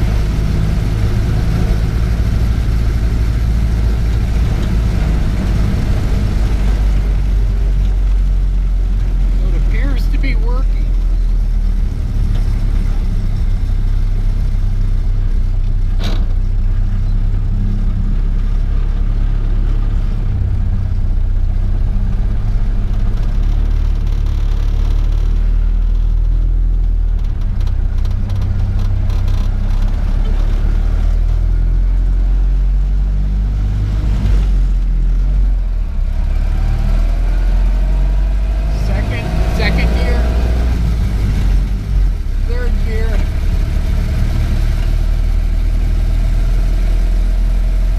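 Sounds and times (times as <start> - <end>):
car engine droning: 0.0 - 47.9.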